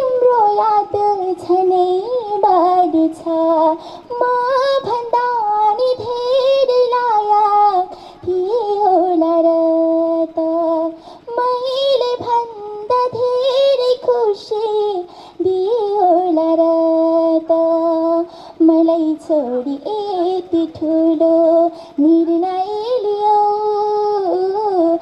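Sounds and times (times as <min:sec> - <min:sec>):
girl singing into a microphone: 0:00.0 - 0:25.0.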